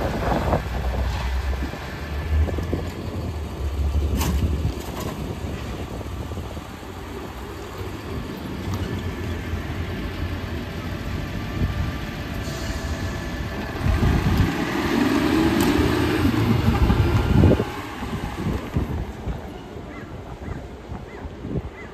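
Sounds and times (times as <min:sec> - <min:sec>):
garbage truck engine accelerating: 0:00.0 - 0:19.4.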